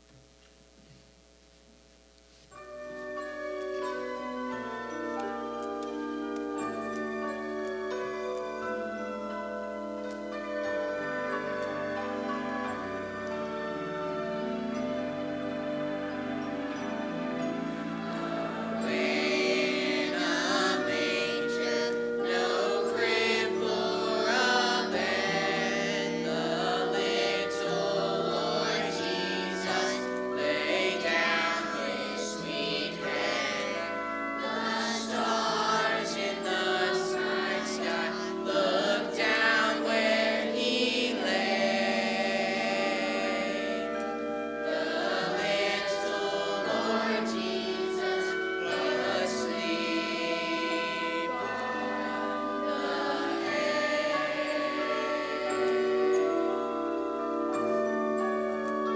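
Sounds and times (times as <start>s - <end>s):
instrumental accompaniment: 2.4s - 58.9s
choir singing: 3.2s - 58.9s.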